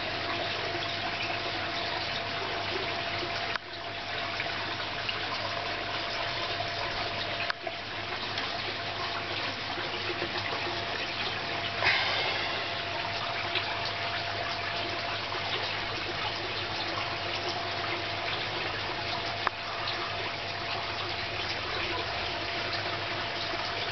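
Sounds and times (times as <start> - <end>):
faint steady hum: 0.0 - 23.9
water splashing in pond: 2.4 - 23.9.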